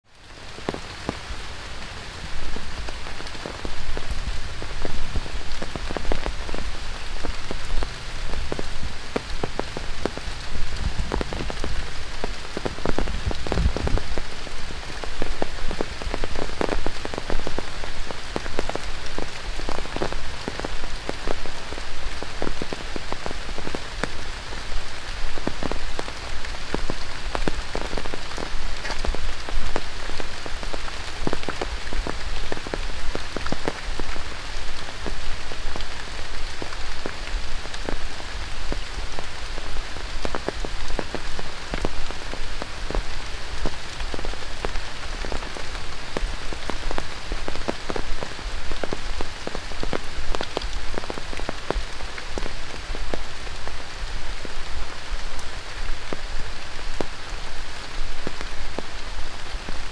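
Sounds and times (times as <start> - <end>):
heavy rain on foliage: 0.0 - 59.9.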